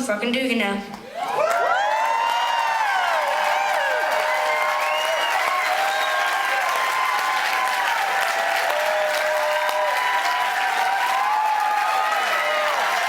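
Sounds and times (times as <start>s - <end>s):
audience cheering and calling: 1.1s - 13.0s
audience clapping: 1.2s - 13.0s.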